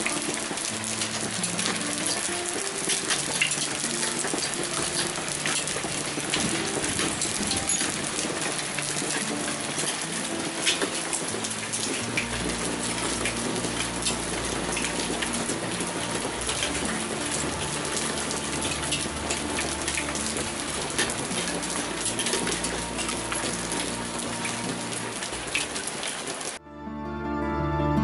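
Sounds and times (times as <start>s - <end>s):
heavy rain pouring: 0.0s - 26.6s
raindrops ticking on hard surfaces: 0.0s - 26.6s.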